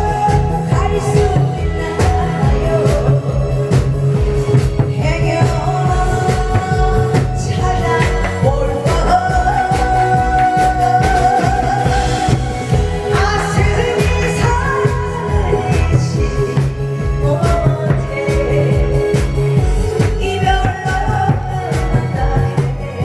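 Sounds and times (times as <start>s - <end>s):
amplified backing music: 0.0s - 23.0s
person singing long notes: 0.0s - 23.0s
steady drum beat: 0.0s - 23.0s.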